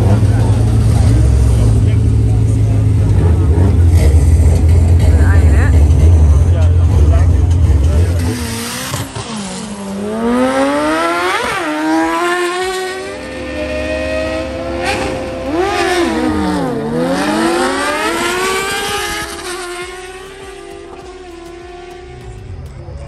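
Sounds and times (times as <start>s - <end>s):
racing engines revving: 0.0s - 23.0s.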